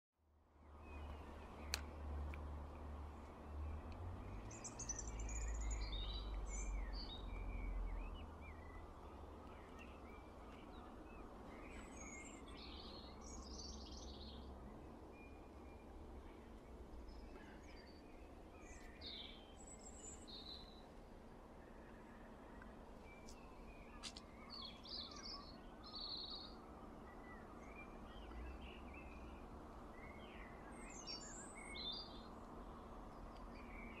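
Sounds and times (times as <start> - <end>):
faint steady background noise: 0.2 - 34.0
small birds chirping: 0.5 - 34.0.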